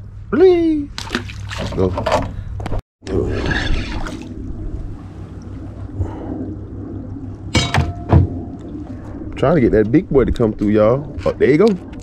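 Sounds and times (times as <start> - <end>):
water lapping around boat: 0.9 - 12.0
wind rumbling on microphone: 1.7 - 12.0.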